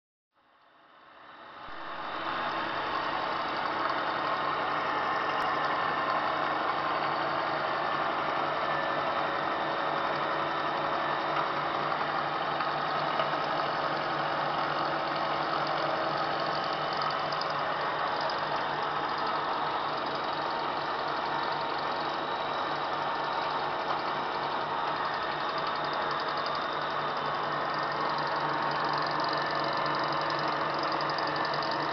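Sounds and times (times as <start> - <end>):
milling machine humming: 1.7 - 31.9.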